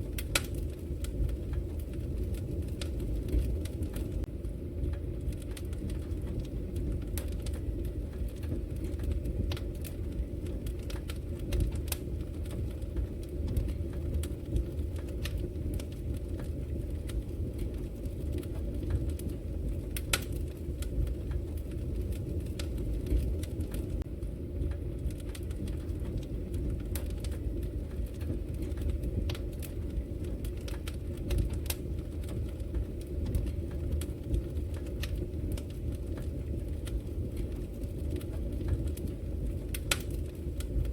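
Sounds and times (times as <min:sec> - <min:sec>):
low fire rumble: 0:00.0 - 0:40.9
wood fire crackling: 0:00.0 - 0:40.9.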